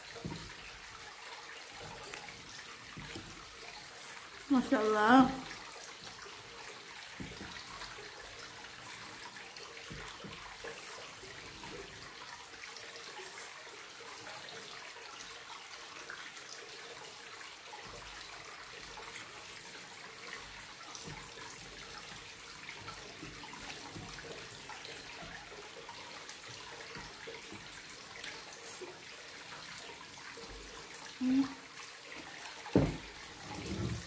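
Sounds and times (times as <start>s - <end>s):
running water hissing: 0.0s - 34.0s.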